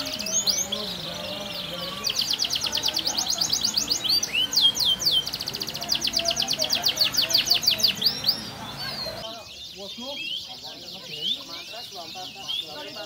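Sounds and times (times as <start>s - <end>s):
canary singing trills: 0.0s - 13.0s.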